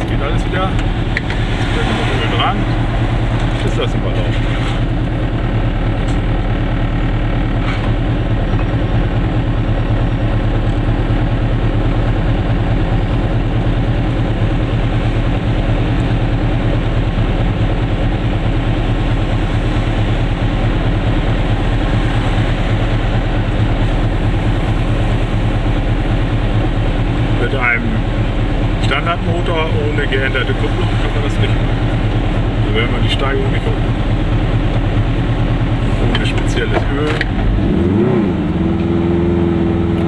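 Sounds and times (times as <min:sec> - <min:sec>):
two-stroke engine droning: 0:00.0 - 0:40.0.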